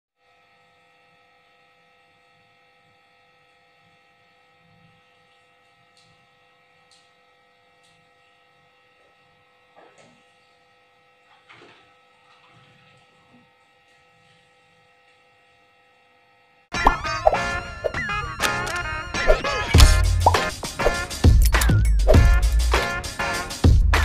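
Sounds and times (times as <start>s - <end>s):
electrical hum and whine: 0.2s - 23.3s.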